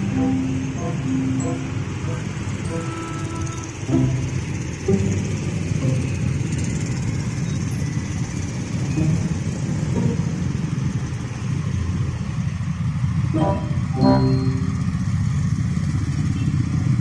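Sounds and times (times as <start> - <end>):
passing vehicles rumbling: 0.0 - 17.0.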